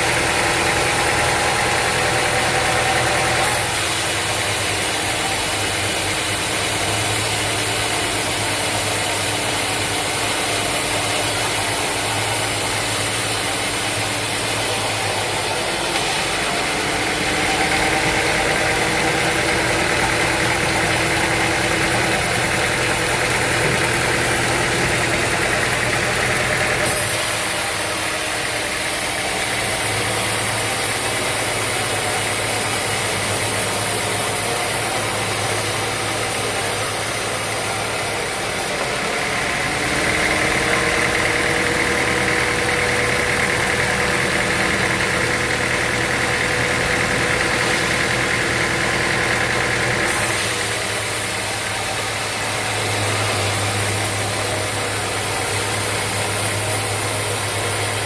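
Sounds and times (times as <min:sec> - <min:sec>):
sawmill machinery hum: 0:00.0 - 0:58.0.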